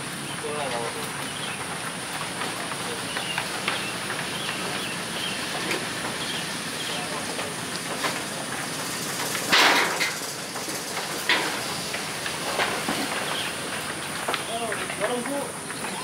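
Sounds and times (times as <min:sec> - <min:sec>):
steady hissing noise: 0:00.0 - 0:16.0.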